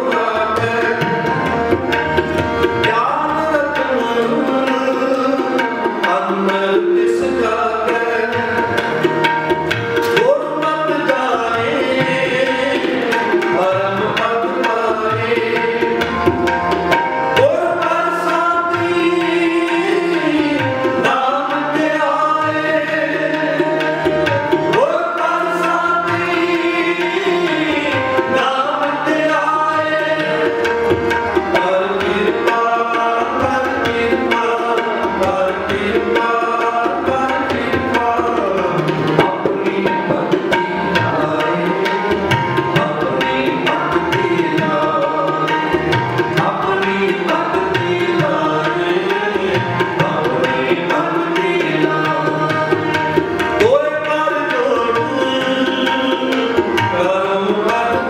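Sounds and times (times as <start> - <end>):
man singing a hymn: 0.0 - 1.3, 2.8 - 8.6, 10.1 - 15.8, 17.3 - 30.4, 31.5 - 52.9, 53.6 - 58.0
harmonium chords: 0.0 - 58.0
tabla drums: 0.0 - 58.0.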